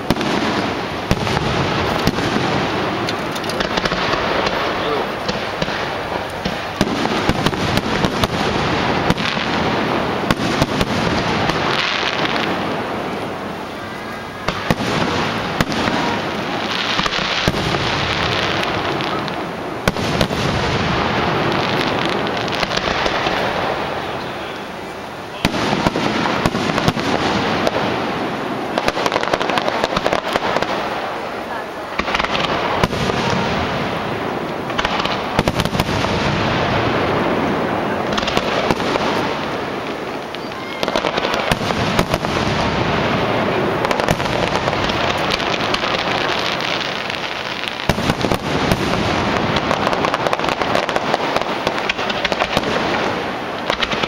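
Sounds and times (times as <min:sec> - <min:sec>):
fireworks bursting with crackling: 0:00.0 - 0:54.0.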